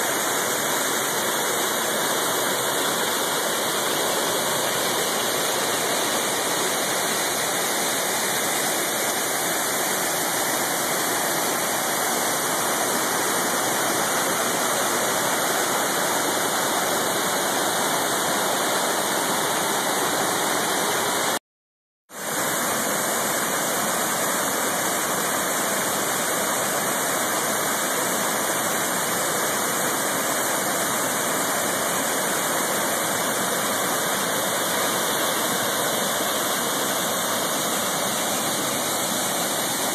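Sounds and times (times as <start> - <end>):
waterfall rushing: 0.0 - 21.4, 22.2 - 39.9.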